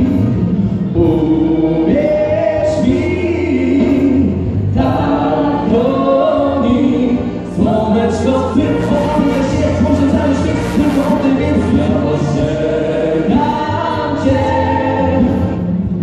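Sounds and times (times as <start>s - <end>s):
group of voices singing: 0.0s - 16.0s
low musical accompaniment: 0.0s - 16.0s.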